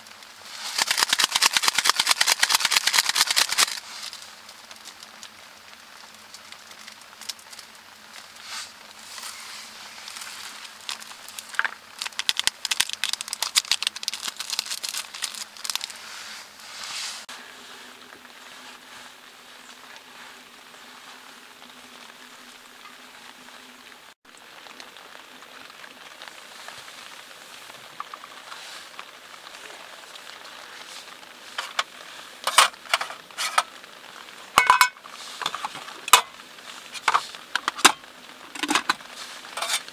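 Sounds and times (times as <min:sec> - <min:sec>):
crinkling and crackling clicks: 0:00.0 - 0:17.3, 0:18.0 - 0:39.9
steady hiss: 0:00.0 - 0:39.9.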